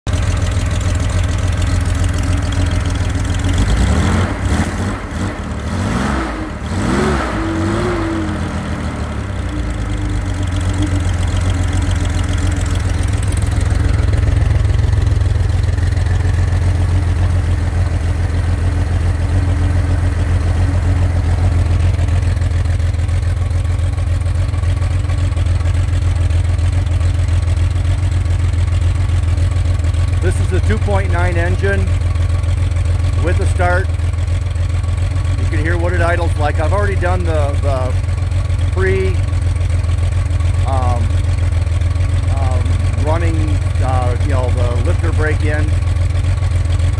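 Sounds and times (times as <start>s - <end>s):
car engine revving and idling: 0.1s - 46.9s.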